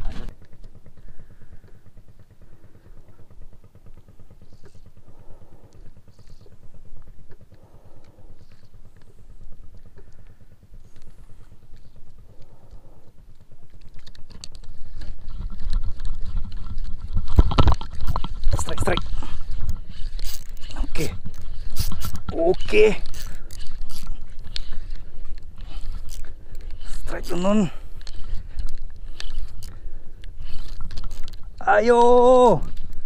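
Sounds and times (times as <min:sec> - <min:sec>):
boat engine throbbing: 0:00.0 - 0:33.0.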